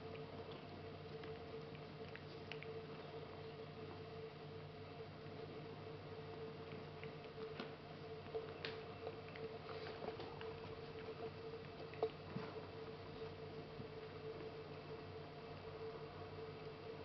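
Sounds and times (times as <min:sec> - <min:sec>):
cat licking and grooming: 0:00.0 - 0:17.0.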